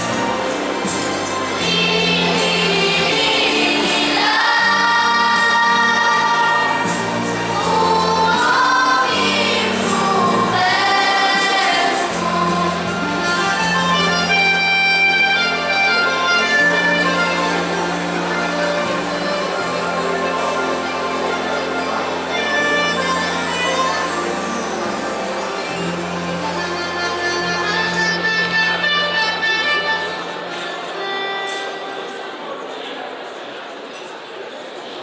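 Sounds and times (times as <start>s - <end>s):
choir singing a carol: 0.0s - 29.4s
low accompaniment: 0.0s - 32.0s.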